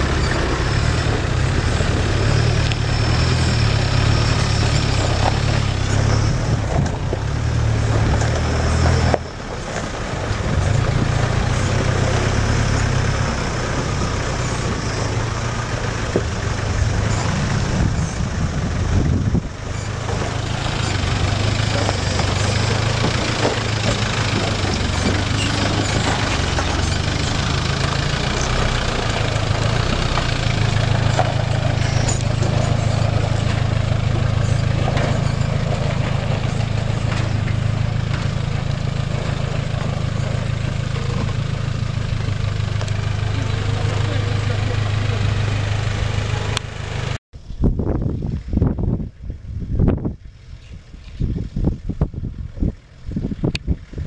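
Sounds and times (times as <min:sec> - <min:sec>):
off-road engines at low revs: 0:00.0 - 0:54.0.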